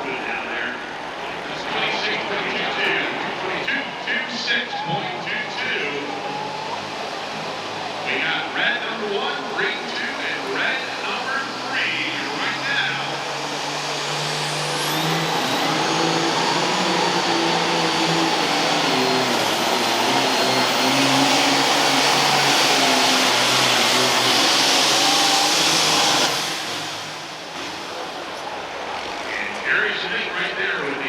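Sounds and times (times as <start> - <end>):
diesel tractor engine roaring: 0.0 - 31.0.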